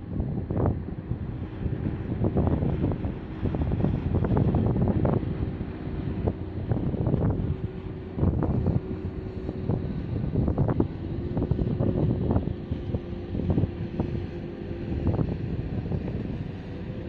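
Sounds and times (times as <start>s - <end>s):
motorboat engine drone: 0.0s - 17.0s
wind buffeting microphone: 0.0s - 17.0s.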